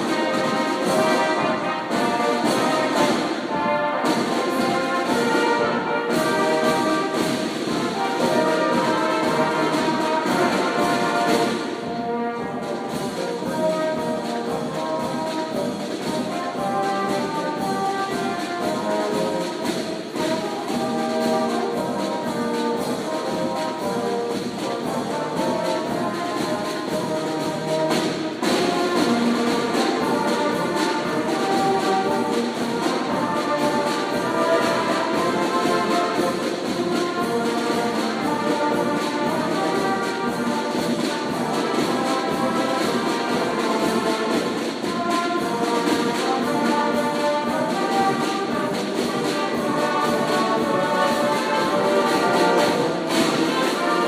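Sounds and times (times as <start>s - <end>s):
brass horns playing a tune: 0.0s - 54.0s
snare and bass drums: 0.0s - 54.0s.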